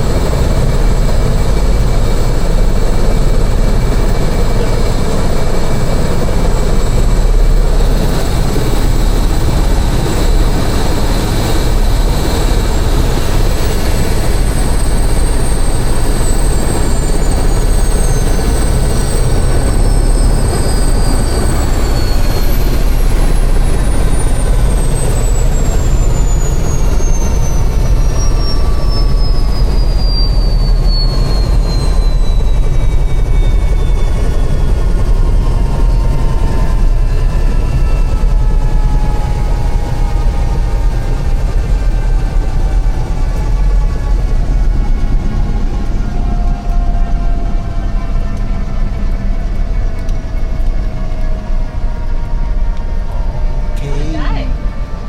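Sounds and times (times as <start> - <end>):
helicopter rotor and engine drone: 0.0 - 55.0
high whines: 0.0 - 55.0.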